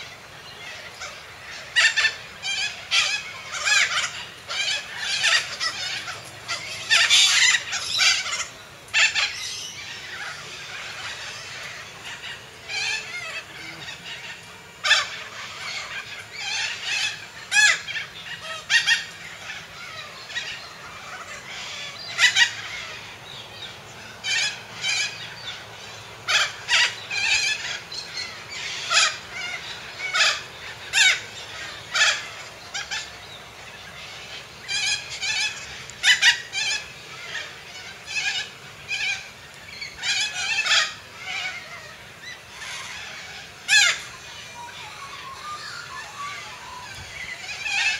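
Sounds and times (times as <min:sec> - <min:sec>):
cockatoo screeching: 0:00.6 - 0:23.1, 0:26.3 - 0:33.2, 0:33.8 - 0:47.9.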